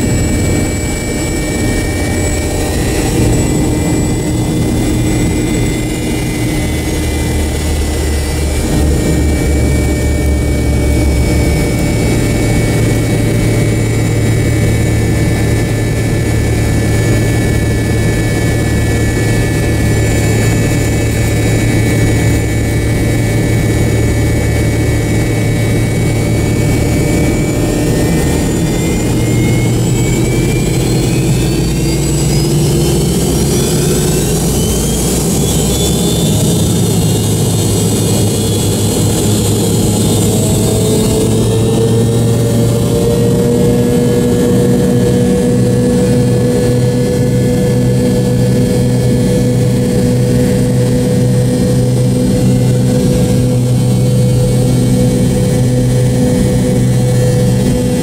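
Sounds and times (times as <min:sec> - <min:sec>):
jet engine whine and hum: 0:00.0 - 0:58.0.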